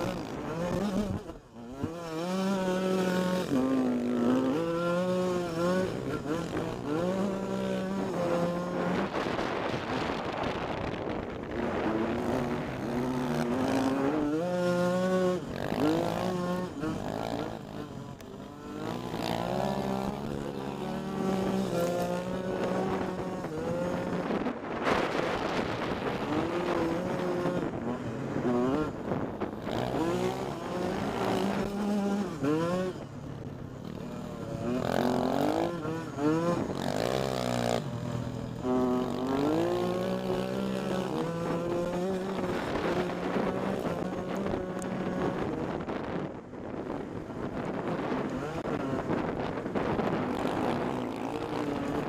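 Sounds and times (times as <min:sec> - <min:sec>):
dirt bike engine revving: 0:00.0 - 0:52.0
wind on microphone: 0:06.5 - 0:17.9, 0:18.7 - 0:33.5, 0:34.4 - 0:52.0.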